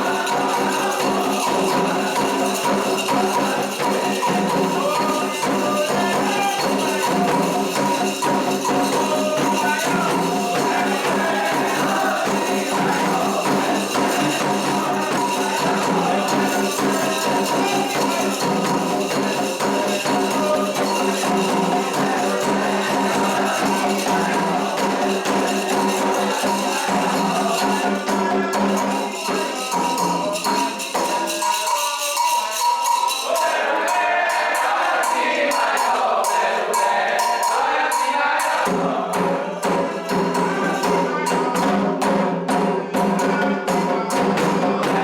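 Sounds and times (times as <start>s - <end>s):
steady ringing tones: 0.0s - 41.8s
fast percussion with jingling: 0.0s - 45.0s.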